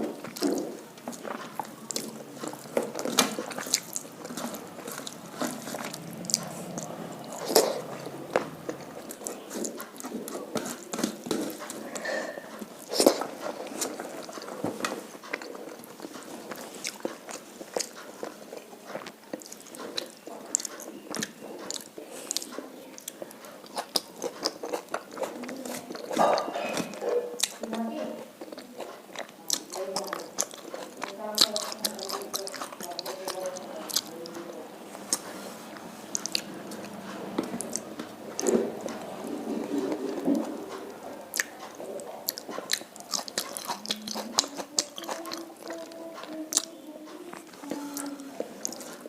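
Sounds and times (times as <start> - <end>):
mouth clicks and smacks: 0.0 - 49.0
person chewing and crunching food: 0.0 - 49.0.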